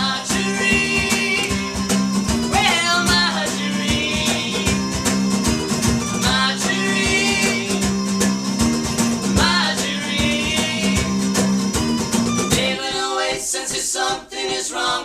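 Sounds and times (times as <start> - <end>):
wavering high held notes: 0.0 - 12.6
strummed guitar: 0.0 - 12.8.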